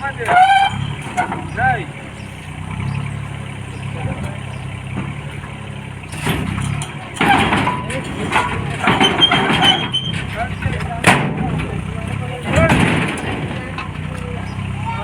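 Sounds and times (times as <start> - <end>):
clattering and knocking: 0.0 - 14.7
heavy vehicle engine humming: 0.0 - 15.0.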